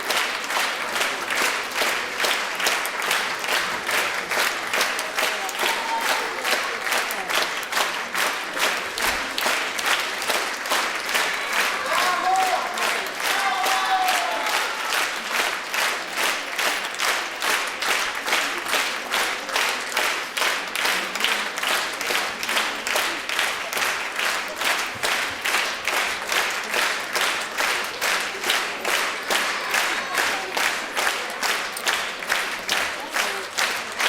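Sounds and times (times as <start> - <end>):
audience clapping in unison: 0.0 - 34.0.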